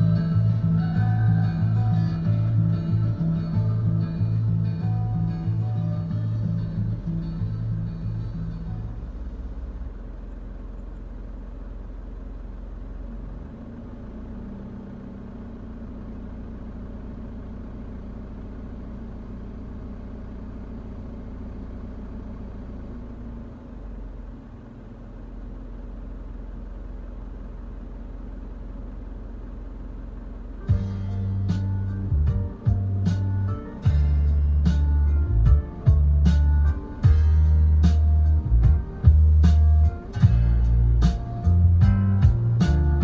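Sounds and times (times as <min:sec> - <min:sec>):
engine rumbling: 0:00.0 - 0:43.0.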